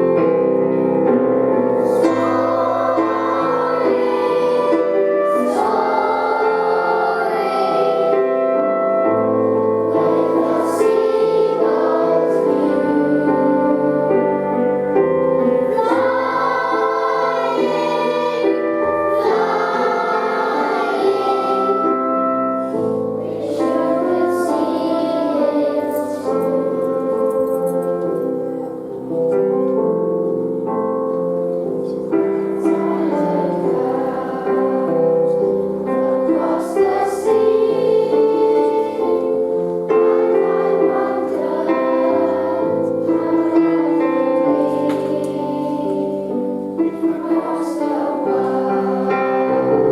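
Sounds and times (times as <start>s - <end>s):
children's choir singing: 0.0s - 49.9s
sustained instrumental backing: 0.0s - 49.9s.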